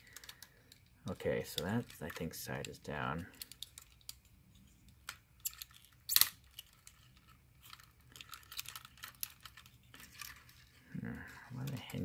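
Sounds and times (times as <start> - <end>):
plastic toy joints clicking: 0.0 - 4.3, 5.0 - 10.5.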